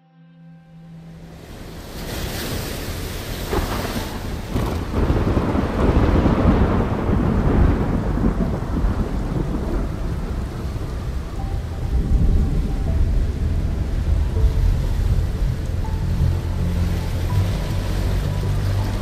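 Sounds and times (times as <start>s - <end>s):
rain hiss: 1.3s - 19.0s
thunder rumbling: 1.4s - 19.0s.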